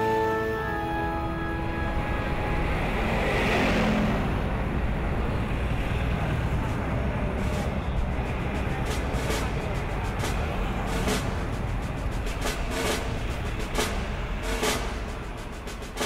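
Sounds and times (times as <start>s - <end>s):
road traffic rumble: 0.0s - 16.0s
vehicle passing: 0.4s - 16.0s.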